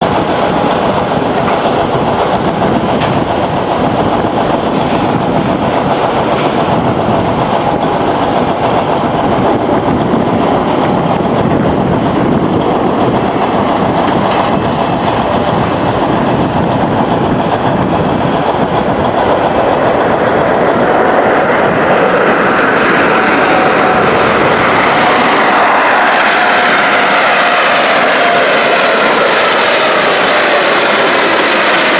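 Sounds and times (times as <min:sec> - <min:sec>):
jet engines rumbling: 0:00.0 - 0:31.9.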